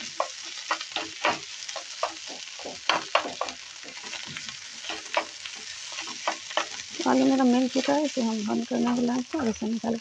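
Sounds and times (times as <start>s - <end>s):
spatula scraping frying pan: 0.0s - 9.6s
oil sizzling: 0.0s - 10.0s.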